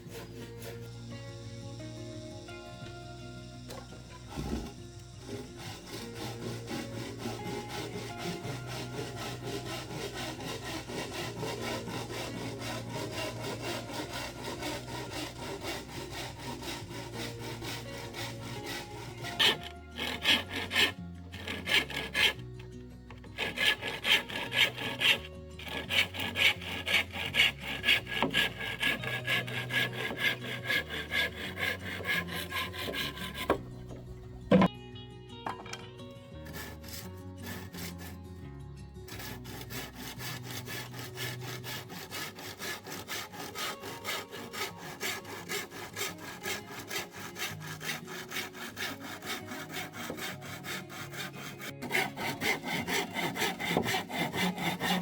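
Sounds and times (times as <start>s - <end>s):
hand saw cutting wood: 0.0s - 34.7s, 35.5s - 55.0s.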